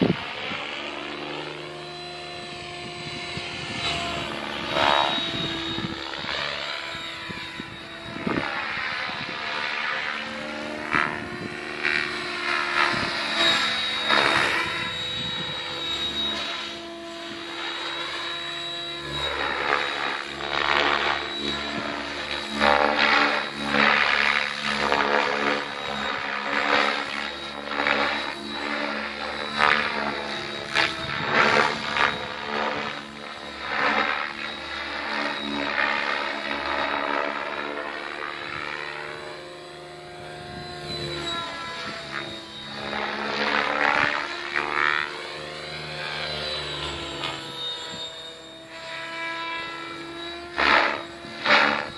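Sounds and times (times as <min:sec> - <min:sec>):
electric motor whine: 0:00.0 - 0:51.9.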